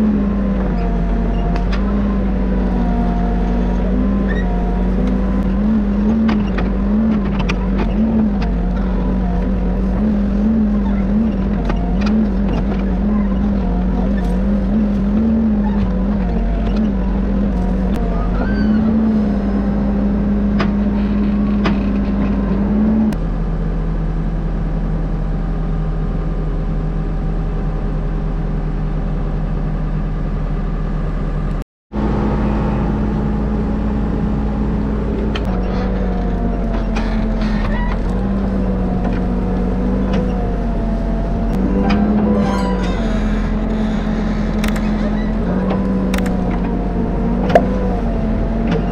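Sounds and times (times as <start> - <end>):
backhoe diesel engine running: 0.0 - 28.2, 32.0 - 48.9.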